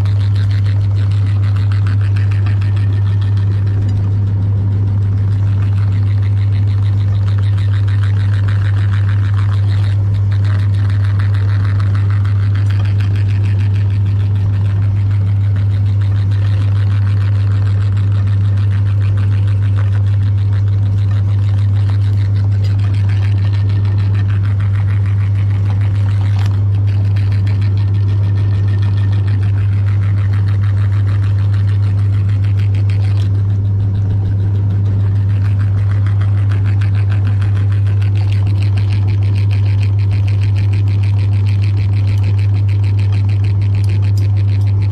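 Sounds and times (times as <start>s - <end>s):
meat grinder motor humming: 0.0s - 44.9s.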